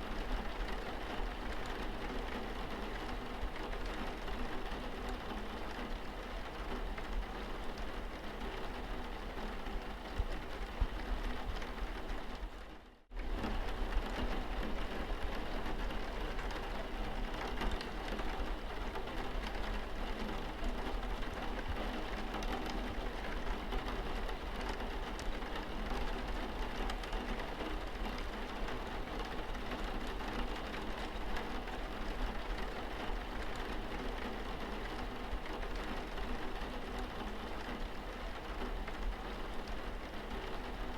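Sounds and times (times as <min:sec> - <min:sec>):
rain pattering on windscreen: 0:00.1 - 0:40.9.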